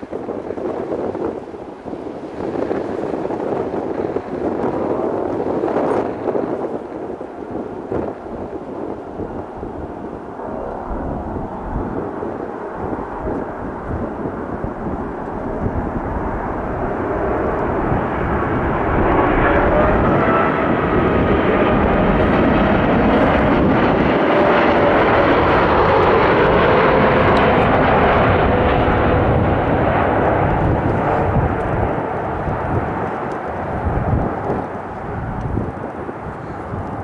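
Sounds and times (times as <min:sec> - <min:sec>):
jet engine whine: 0:00.0 - 0:37.0
jet engines roaring overhead: 0:00.0 - 0:37.0.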